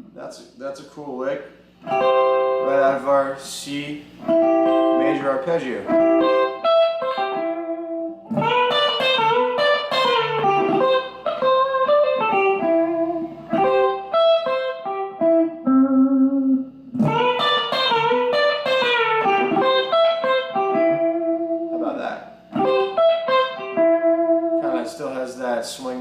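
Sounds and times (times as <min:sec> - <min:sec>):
electric guitar country licks: 0:00.0 - 0:26.0.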